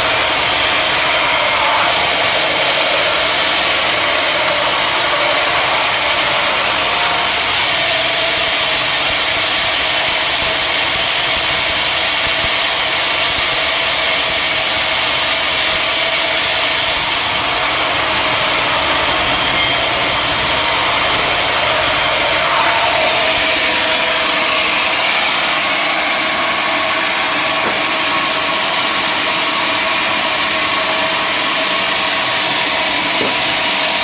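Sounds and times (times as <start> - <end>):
sawmill machinery running: 0.0 - 34.0.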